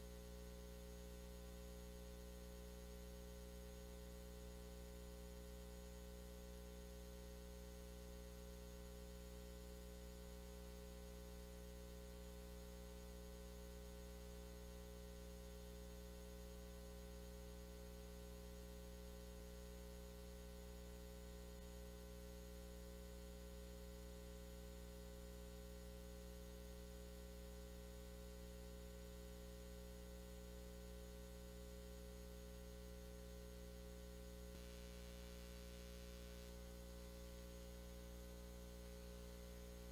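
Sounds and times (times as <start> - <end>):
faint electrical mains hum: 0.0 - 39.9.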